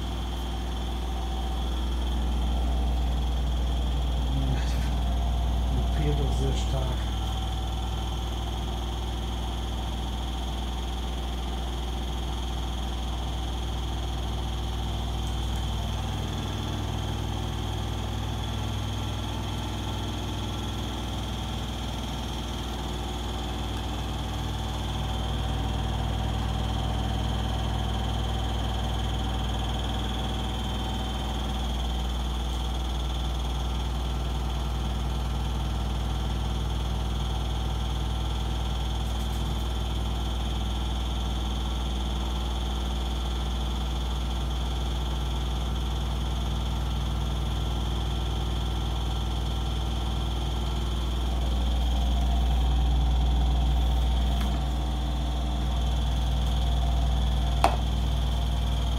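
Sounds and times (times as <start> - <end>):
washing machine spinning: 0.0 - 58.9.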